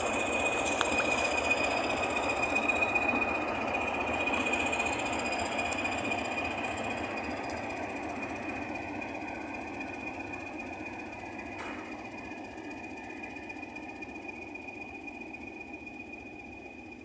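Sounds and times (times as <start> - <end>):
diesel locomotive engine running: 0.0 - 17.0
steady high whistle: 0.0 - 17.0.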